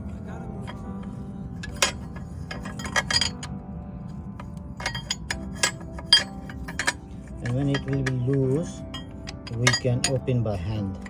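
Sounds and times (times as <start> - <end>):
spanner clinking on metal: 0.6 - 3.6, 4.4 - 11.0.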